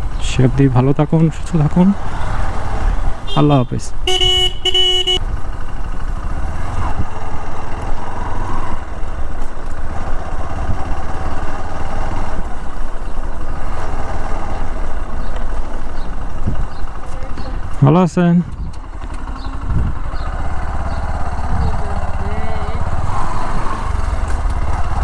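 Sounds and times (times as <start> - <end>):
motorcycle engine and wind rumble: 0.0 - 25.0.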